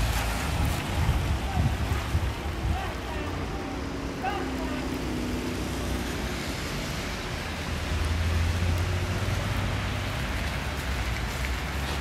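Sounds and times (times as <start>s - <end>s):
traffic on wet asphalt: 0.0s - 12.0s
vehicle passing rumble: 0.0s - 12.0s.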